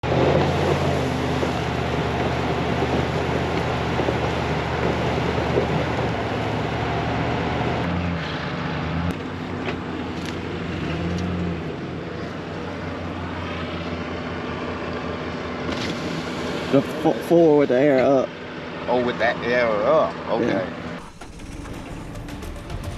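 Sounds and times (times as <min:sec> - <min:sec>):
vehicle engine running: 0:00.0 - 0:22.9.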